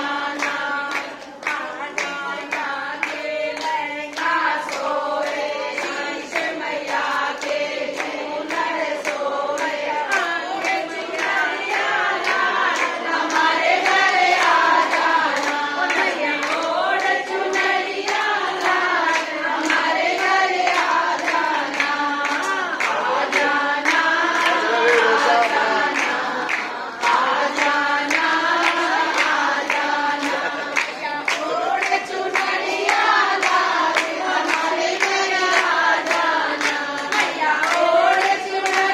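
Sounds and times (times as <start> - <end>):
rhythmic hand clapping: 0.0 - 38.9
women singing in unison: 0.0 - 38.9.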